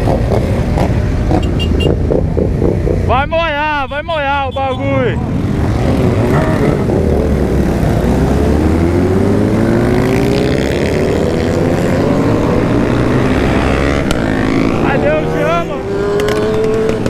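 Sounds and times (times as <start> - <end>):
motorcycle engine accelerating: 0.0 - 3.3, 5.2 - 17.0.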